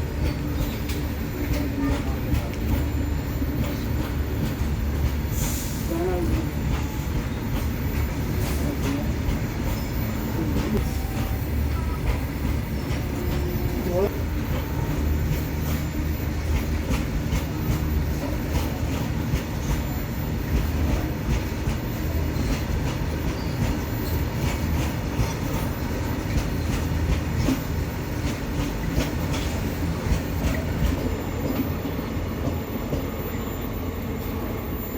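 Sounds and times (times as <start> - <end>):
wheels clicking over rail joints: 0.0 - 31.8
freight train rumbling: 0.0 - 34.9.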